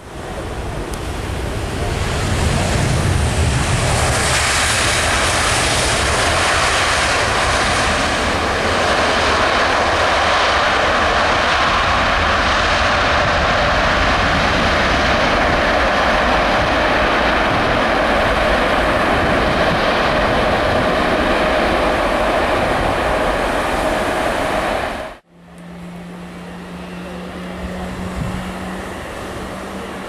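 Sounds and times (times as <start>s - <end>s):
jet engines rushing: 0.0s - 30.0s.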